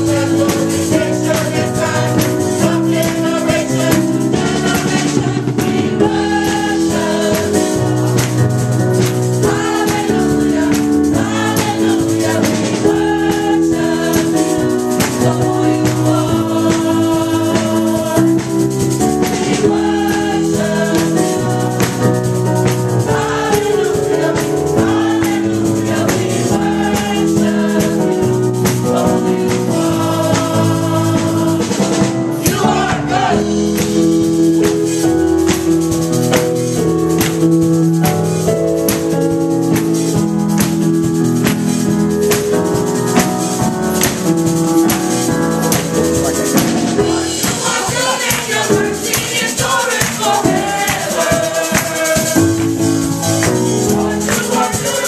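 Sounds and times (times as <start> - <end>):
hand clapping: 0.0 - 5.3, 6.5 - 30.6, 33.7 - 55.0
gospel choir singing: 0.0 - 37.8, 38.4 - 55.0.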